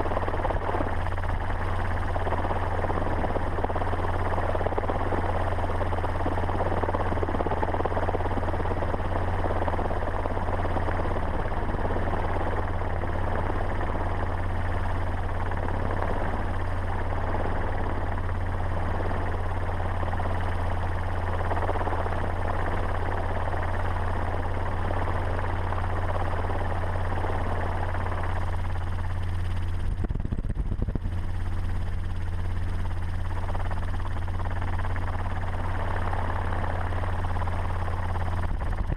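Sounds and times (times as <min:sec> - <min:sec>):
vehicle running drone: 0:00.0 - 0:38.9.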